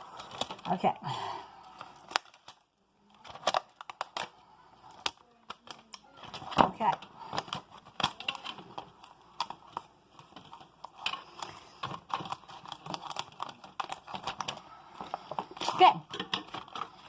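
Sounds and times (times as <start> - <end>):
hands handling plastic packaging: 0.0 - 17.0.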